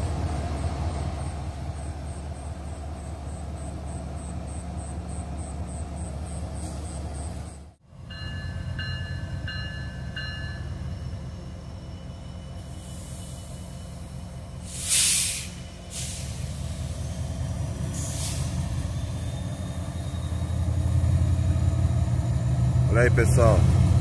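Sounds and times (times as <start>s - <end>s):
locomotive engine drone: 0.0s - 24.0s.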